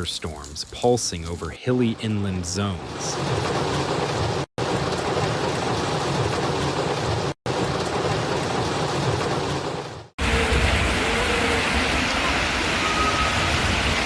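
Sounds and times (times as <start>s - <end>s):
heavy rain splashing: 0.0s - 14.0s
low steady water wash: 1.6s - 14.0s.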